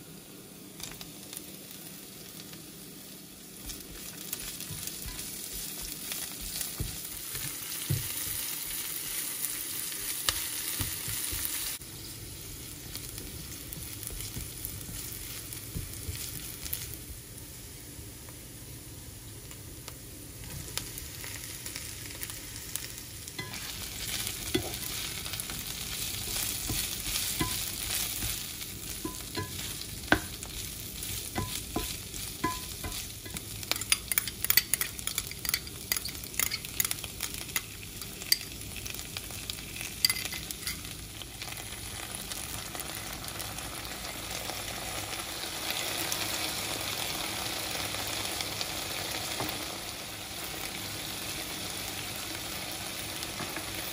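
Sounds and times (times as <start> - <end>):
beans sizzling in oil: 0.0 - 53.9.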